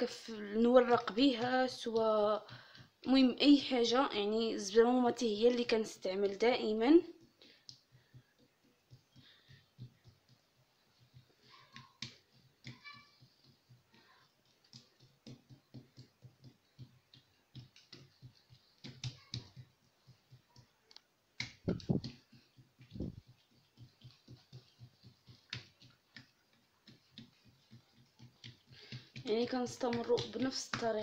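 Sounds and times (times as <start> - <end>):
dough thumps: 0.0 - 31.0
hands slapping dough: 0.0 - 31.0.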